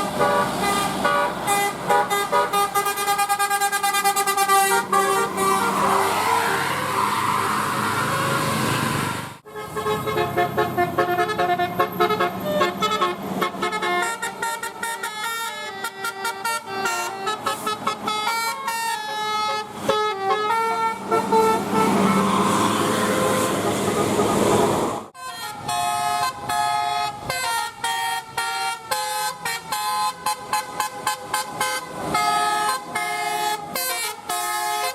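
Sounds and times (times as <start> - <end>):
bus horn playing a melody: 0.0 - 7.5, 9.4 - 34.9
street noise: 0.0 - 34.9.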